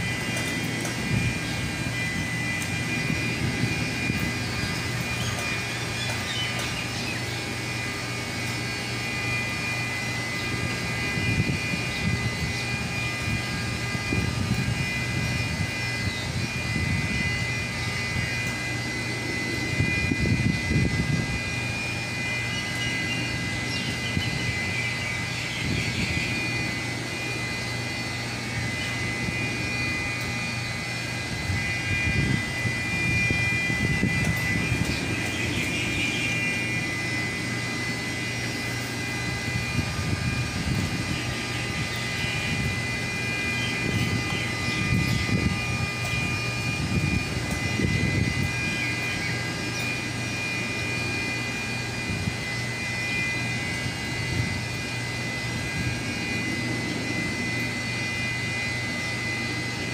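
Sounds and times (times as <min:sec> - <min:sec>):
machinery drone: 0:00.0 - 0:59.9
wind buffeting microphone: 0:00.0 - 0:59.9.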